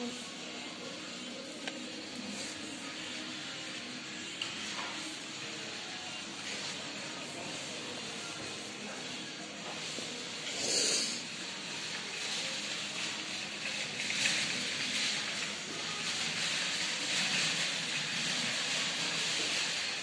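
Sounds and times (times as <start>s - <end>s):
shopping centre background noise: 0.0s - 20.0s.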